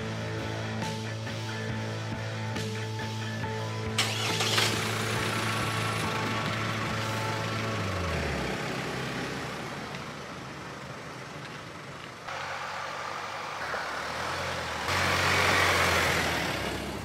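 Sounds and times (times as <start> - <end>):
car engine driving: 0.0 - 17.0
tyres on road: 0.0 - 17.0.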